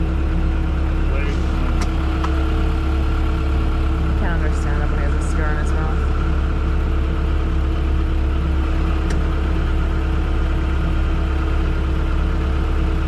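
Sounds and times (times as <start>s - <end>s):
heavy equipment engine droning: 0.0s - 13.0s.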